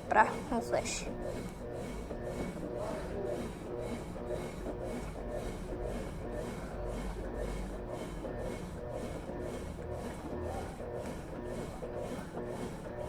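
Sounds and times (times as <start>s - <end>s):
washing machine churning: 0.0s - 13.0s.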